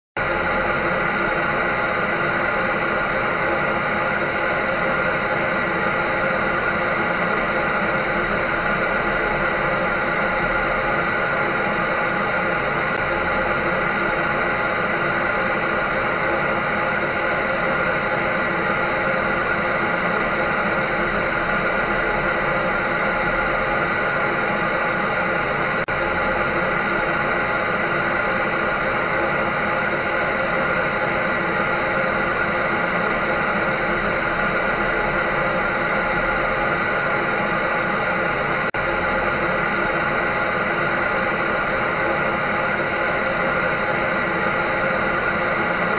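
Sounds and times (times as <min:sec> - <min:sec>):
dryer motor hum: 0:00.2 - 0:45.9.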